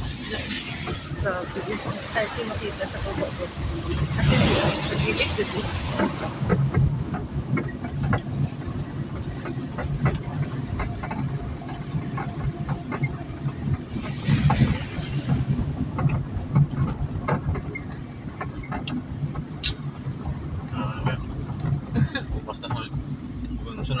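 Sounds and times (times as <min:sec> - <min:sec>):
vehicle engine drone: 0:00.0 - 0:24.0
knocks and rattles: 0:00.4 - 0:24.0.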